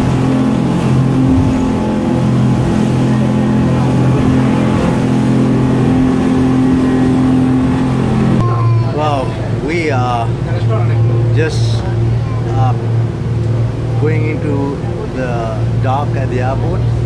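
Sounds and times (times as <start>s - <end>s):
speedboat engine drone: 0.0s - 17.0s
water rushing against hull: 0.0s - 17.0s.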